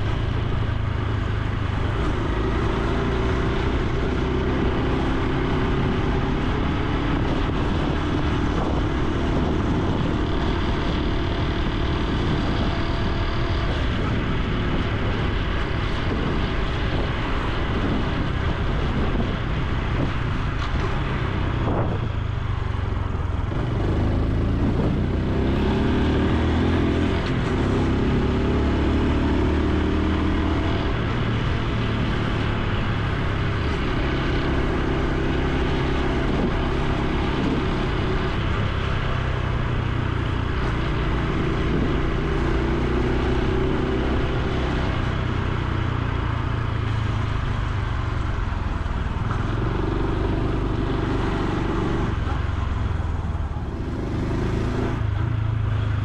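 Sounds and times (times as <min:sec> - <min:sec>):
motorcycle engine running: 0:00.0 - 0:56.0
wind and road rush: 0:00.0 - 0:56.0.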